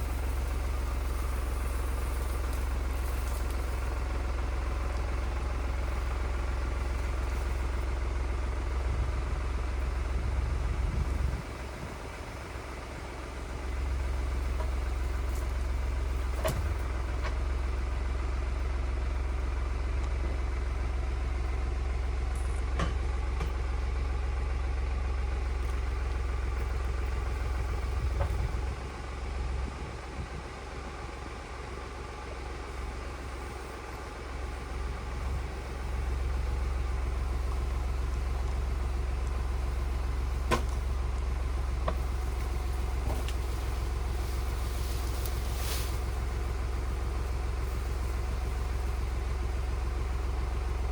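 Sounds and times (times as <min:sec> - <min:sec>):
tractor engine rumbling: 0:00.0 - 0:50.9.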